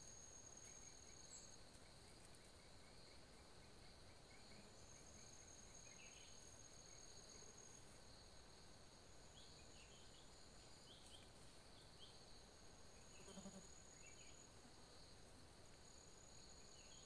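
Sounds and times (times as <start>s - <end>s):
insects trilling: 0.1s - 15.2s.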